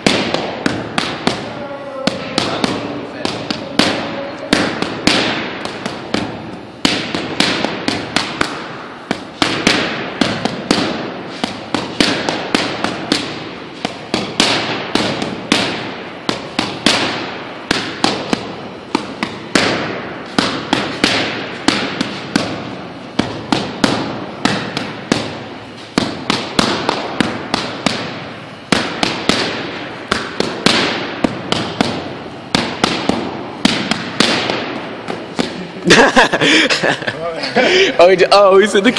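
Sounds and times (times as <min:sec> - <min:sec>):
boxing gloves smacking mitts: 0:00.0 - 0:37.0.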